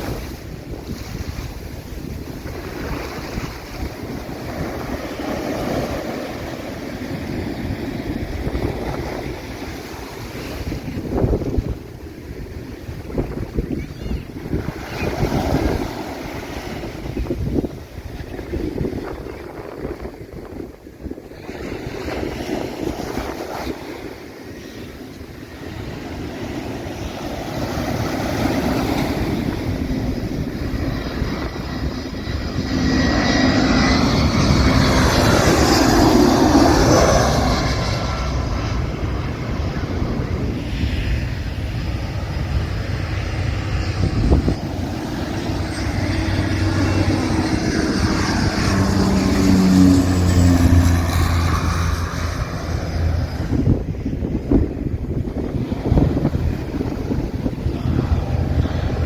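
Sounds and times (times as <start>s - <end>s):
airplane engines droning: 0.0s - 59.0s.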